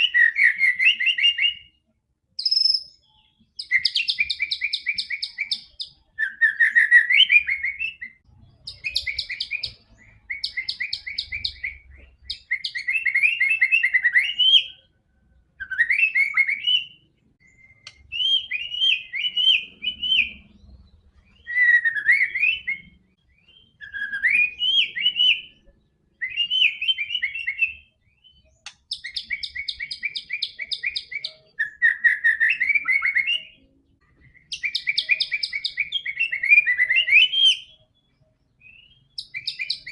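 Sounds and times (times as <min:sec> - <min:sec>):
bird singing trills and whistles: 0:00.0 - 0:39.9.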